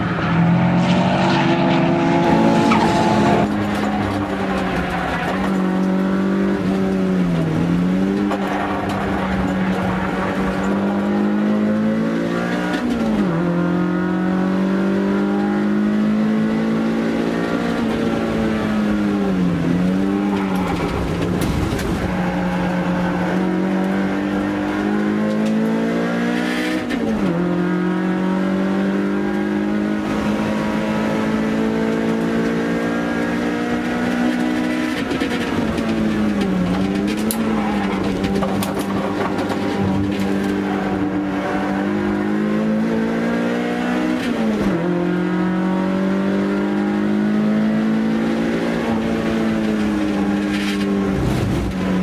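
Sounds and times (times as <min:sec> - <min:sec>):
car engine revving hard: 0:00.0 - 0:52.0.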